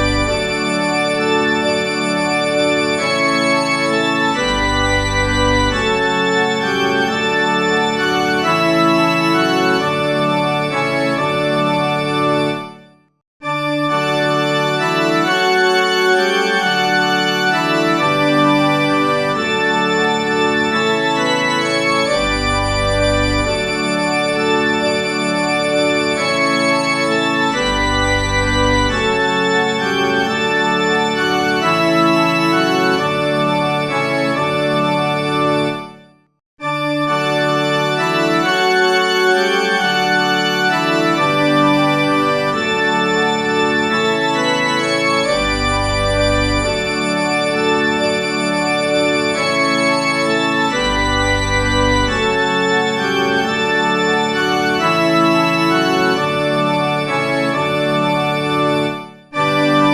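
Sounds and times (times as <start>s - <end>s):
organ playing held chords: 0.0s - 12.8s, 13.4s - 35.9s, 36.6s - 59.9s.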